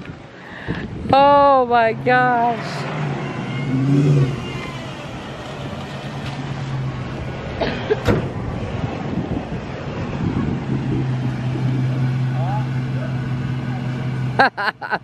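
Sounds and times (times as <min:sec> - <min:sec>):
truck engines humming: 0:00.0 - 0:15.0.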